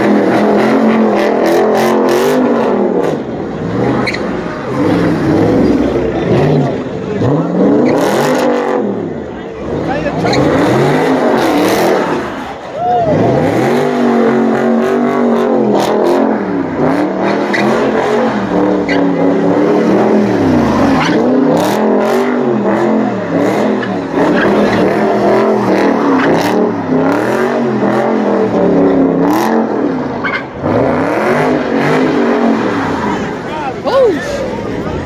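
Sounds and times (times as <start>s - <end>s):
car engine revving: 0.0s - 35.0s
tyres spinning on asphalt: 0.0s - 35.0s.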